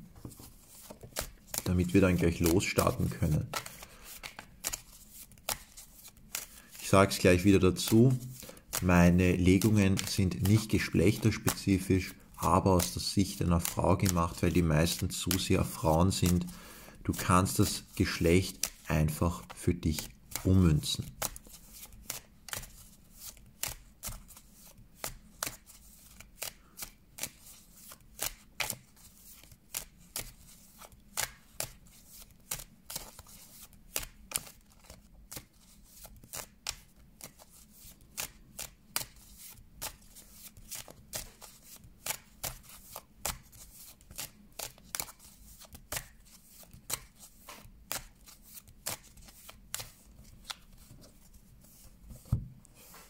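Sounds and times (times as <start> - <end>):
cards being shuffled: 0.1 - 53.0.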